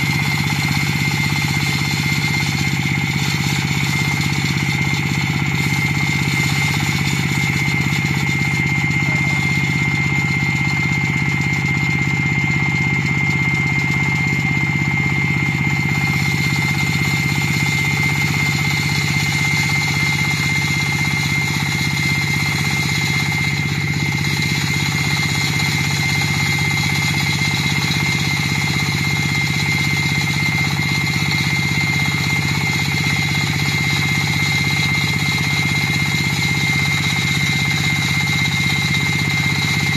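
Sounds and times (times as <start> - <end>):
diesel floor saw cutting concrete: 0.0 - 39.9
saw blade high whine: 0.0 - 39.9.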